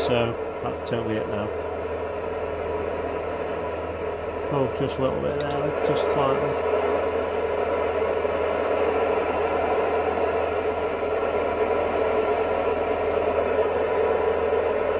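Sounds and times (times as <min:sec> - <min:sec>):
radio static hiss: 0:00.0 - 0:02.5, 0:04.3 - 0:14.9.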